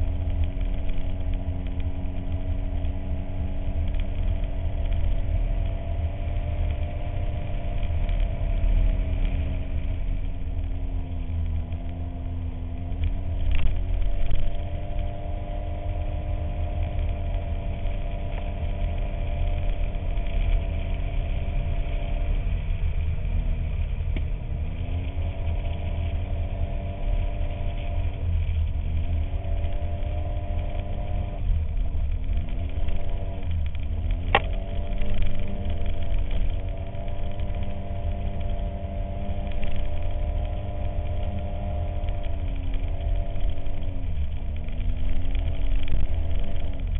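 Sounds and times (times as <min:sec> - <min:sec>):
engine running with throttle changes: 0:00.0 - 0:46.9.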